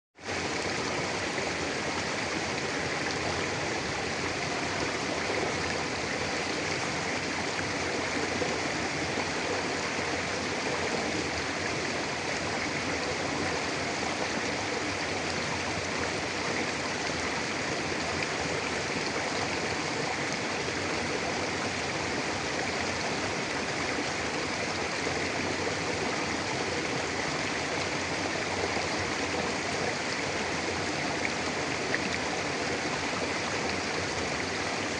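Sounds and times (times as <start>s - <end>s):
river flowing over rocks: 0.2s - 34.9s.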